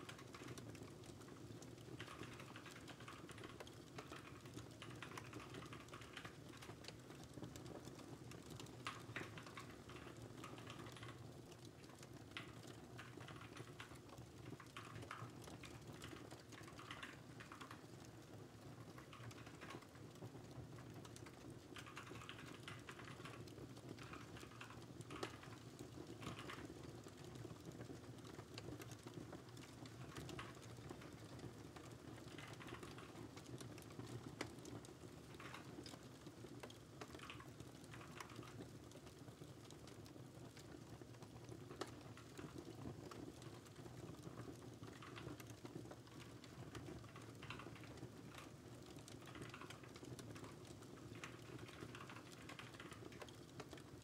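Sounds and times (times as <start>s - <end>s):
crackling fireplace: 0.0s - 54.0s
fire popping: 0.0s - 54.0s
typing on a keyboard: 0.0s - 54.0s.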